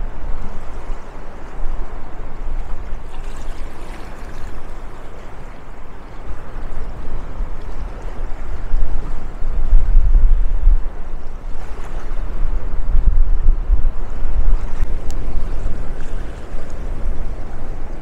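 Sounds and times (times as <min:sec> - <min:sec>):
rushing outdoor noise: 0:00.0 - 0:18.0.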